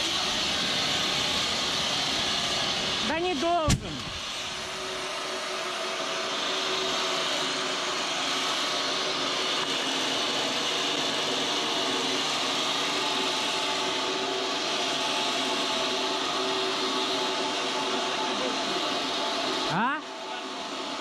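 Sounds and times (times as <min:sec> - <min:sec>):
turboshaft engine hissing: 0:00.0 - 0:21.0.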